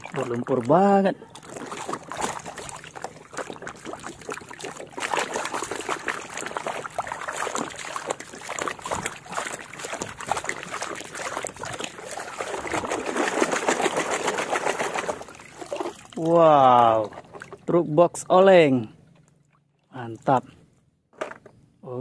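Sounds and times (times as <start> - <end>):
water splashing in metal basin: 0.0 - 17.7.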